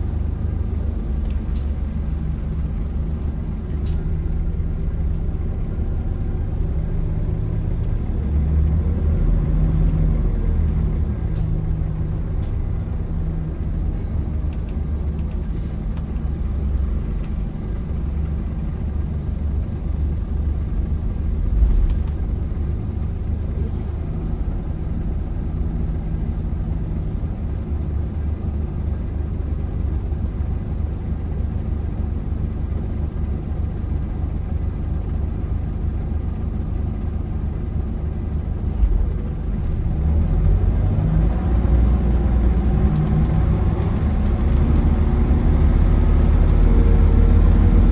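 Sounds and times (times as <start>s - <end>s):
bus diesel engine rumble: 0.0s - 47.9s
road noise: 0.0s - 47.9s.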